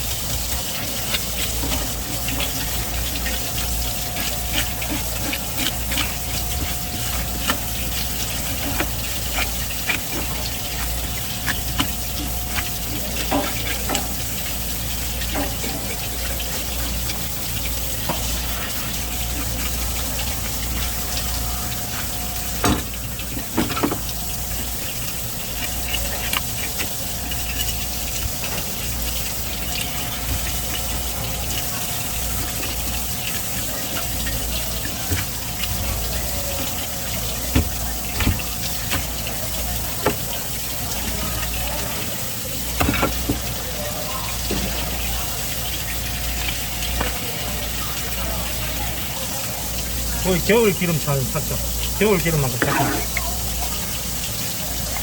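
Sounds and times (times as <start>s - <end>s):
water running from a tap: 0.0s - 55.0s.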